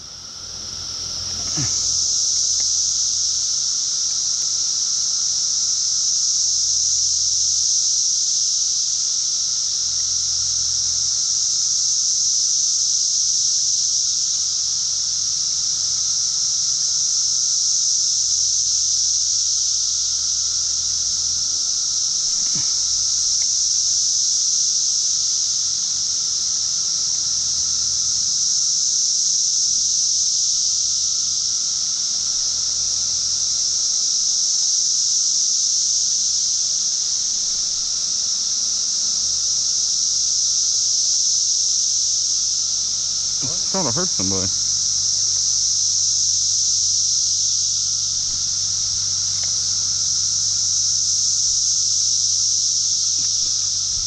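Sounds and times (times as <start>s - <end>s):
cicadas droning: 0.0s - 54.0s.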